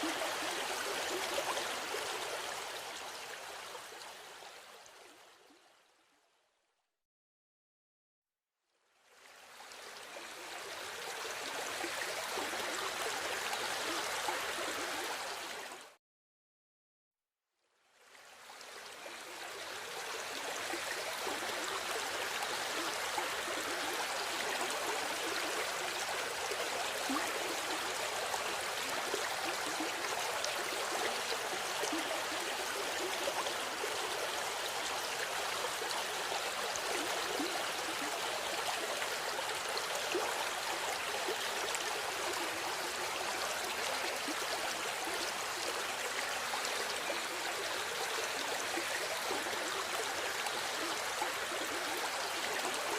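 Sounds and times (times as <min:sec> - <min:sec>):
river water flowing: 0:00.0 - 0:05.6, 0:09.0 - 0:16.0, 0:18.0 - 0:52.9.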